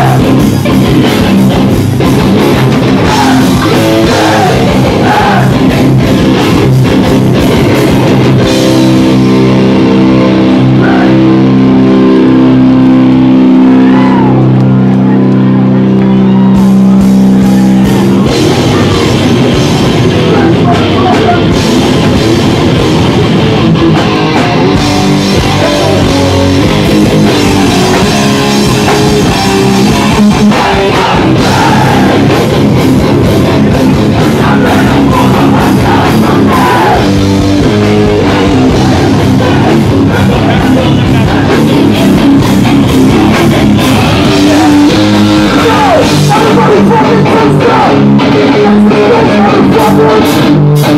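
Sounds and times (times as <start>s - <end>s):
live heavy rock band: 0.0s - 50.9s.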